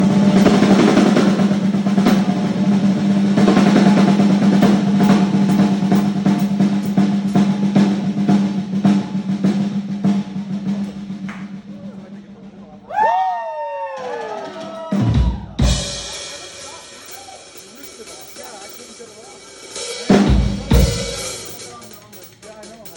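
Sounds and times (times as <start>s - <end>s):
drum solo: 0.0s - 11.7s, 14.9s - 22.9s.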